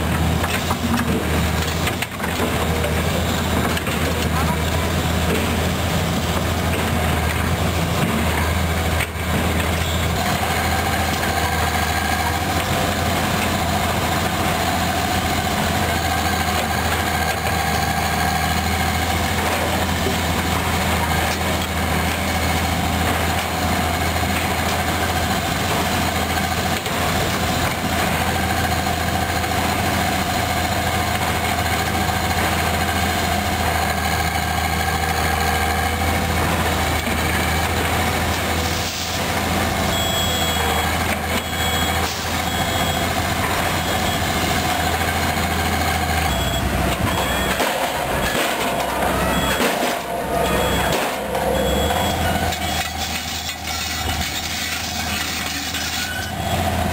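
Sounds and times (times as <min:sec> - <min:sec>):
heavy diesel engines droning: 0:00.0 - 0:56.9.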